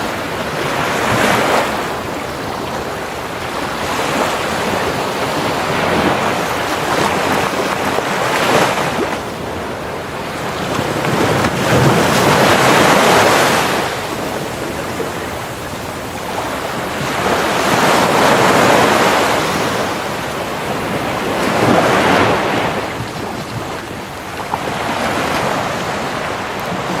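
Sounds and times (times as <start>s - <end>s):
ocean waves breaking on beach: 0.0s - 27.0s.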